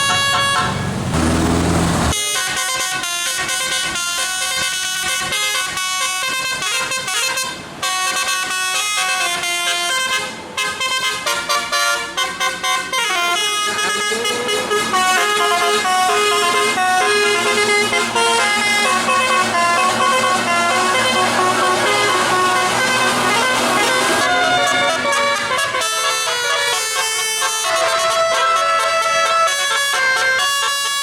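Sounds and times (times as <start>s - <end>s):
musical air horn tune: 2.1s - 31.0s.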